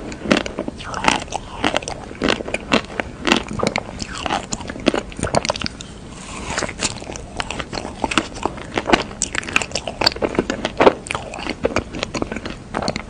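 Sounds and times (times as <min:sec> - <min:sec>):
cookie crunching while chewed: 0:00.0 - 0:13.0.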